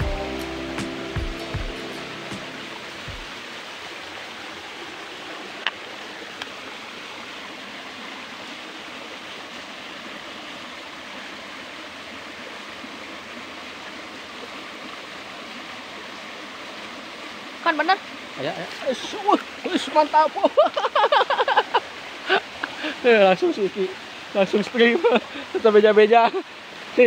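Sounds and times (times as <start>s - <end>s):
stream trickling over stones: 0.0s - 27.0s.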